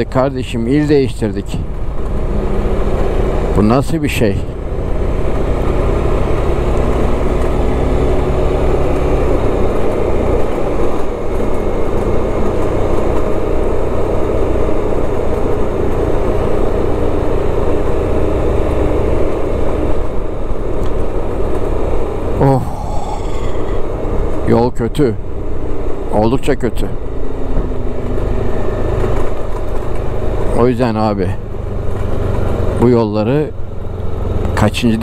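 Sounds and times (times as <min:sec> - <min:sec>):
wind and road noise: 0:00.0 - 0:35.0.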